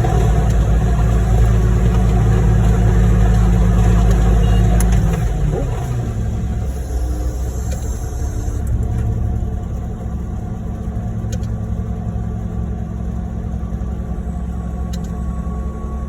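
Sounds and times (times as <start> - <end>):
diesel truck engines droning: 0.0 - 16.0.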